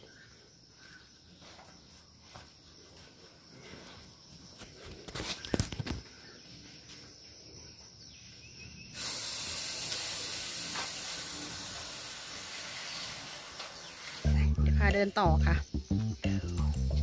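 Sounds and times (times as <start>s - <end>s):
steady high-pitched hiss: 0.0s - 15.4s.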